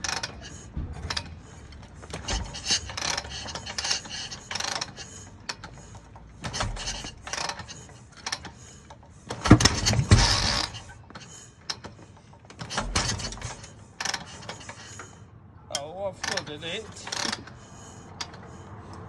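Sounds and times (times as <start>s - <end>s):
kick lever clanking and ratcheting: 0.0s - 17.6s.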